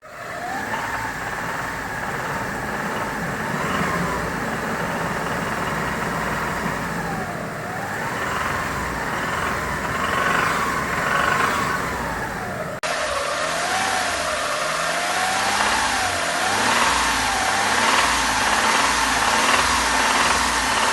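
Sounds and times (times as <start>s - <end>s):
car engine revving: 0.0s - 20.9s
engine knocking: 0.0s - 20.9s.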